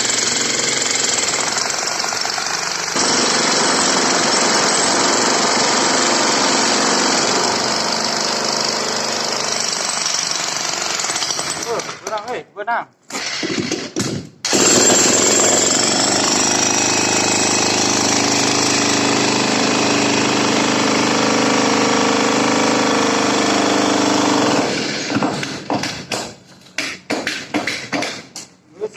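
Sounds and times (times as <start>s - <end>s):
jackhammer hammering: 0.0s - 12.2s, 13.1s - 28.4s.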